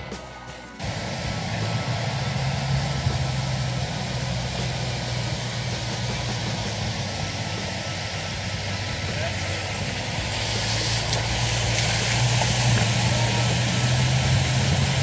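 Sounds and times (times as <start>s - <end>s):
motorcycle engine running: 0.8s - 15.0s
steady rushing noise: 0.8s - 15.0s.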